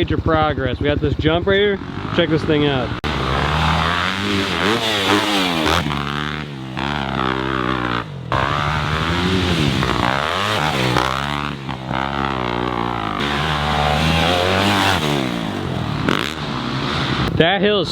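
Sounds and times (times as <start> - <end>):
dirt bike engine revving: 0.0 - 17.4.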